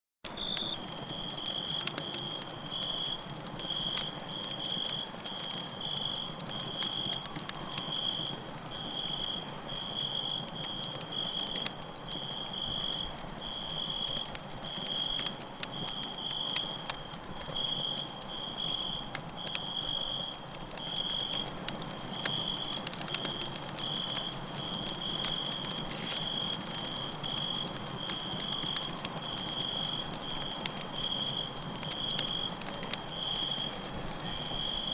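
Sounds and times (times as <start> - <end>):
campfire crackling and popping: 0.2 - 34.9
cricket chirping: 0.3 - 34.9.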